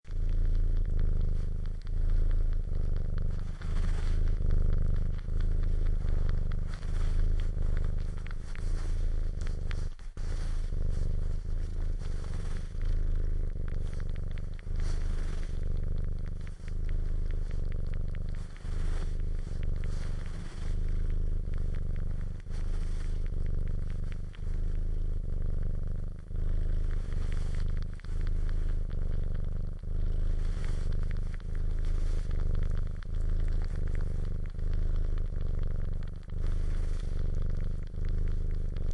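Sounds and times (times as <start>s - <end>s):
cat purring: 0.0s - 38.9s
wet suckling clicks: 0.1s - 38.9s.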